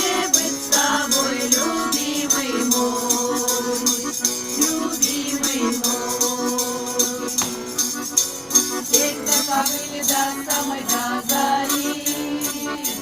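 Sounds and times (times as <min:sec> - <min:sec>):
button accordion playing folk melody: 0:00.0 - 0:13.0
jingling percussion beat: 0:00.0 - 0:13.0.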